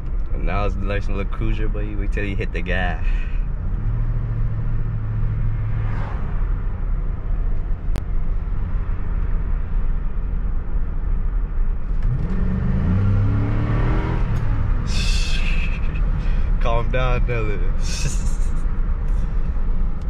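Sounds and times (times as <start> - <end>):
car engine hum: 0.0 - 20.0
road noise: 0.0 - 20.0.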